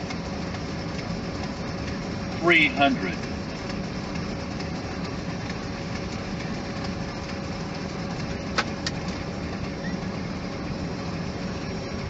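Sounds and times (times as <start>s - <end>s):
airflow and jet engines rushing: 0.0s - 12.0s
constant low hum: 0.0s - 12.0s.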